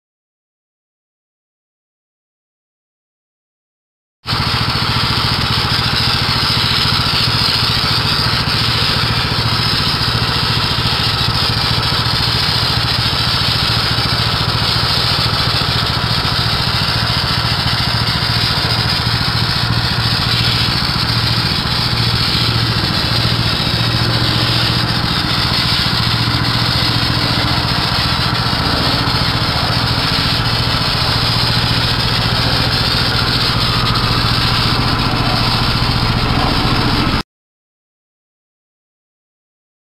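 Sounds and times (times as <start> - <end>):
small gasoline engine running: 4.3 - 37.2.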